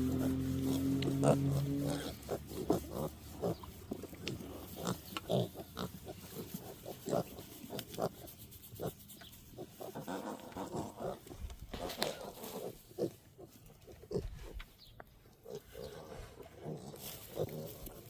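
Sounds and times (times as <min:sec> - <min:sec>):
piglets grunting: 0:00.0 - 0:09.0, 0:09.6 - 0:14.6, 0:15.4 - 0:18.0.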